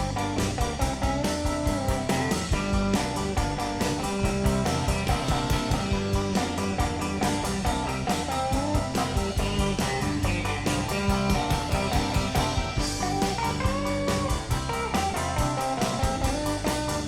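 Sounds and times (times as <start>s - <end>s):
rock band playing: 0.0s - 17.0s
sliding lead guitar line: 0.0s - 17.0s.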